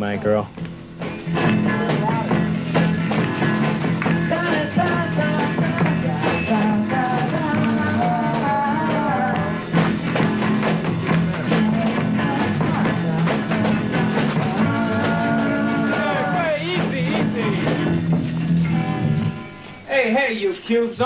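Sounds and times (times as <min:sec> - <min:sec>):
wavering lead guitar line: 0:00.0 - 0:19.9
garage rock band playing: 0:00.0 - 0:20.6.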